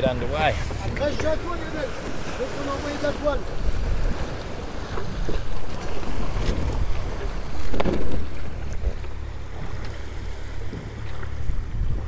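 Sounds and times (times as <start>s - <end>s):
waves washing against boat: 0.0s - 12.0s
wind buffeting microphone: 0.0s - 12.0s.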